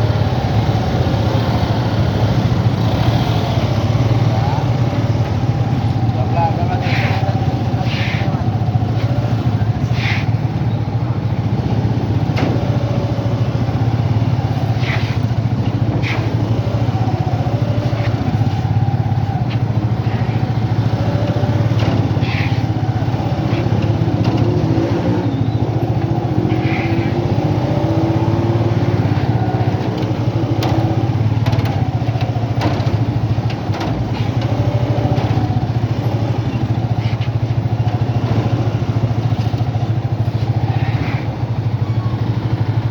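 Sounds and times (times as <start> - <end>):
motorcycle engines passing: 0.0 - 42.9.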